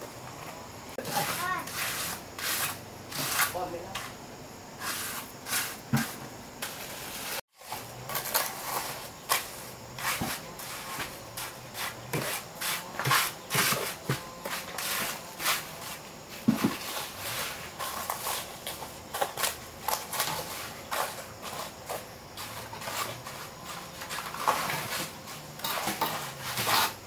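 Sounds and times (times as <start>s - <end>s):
trowel scraping and tapping brick: 4.8s - 27.0s.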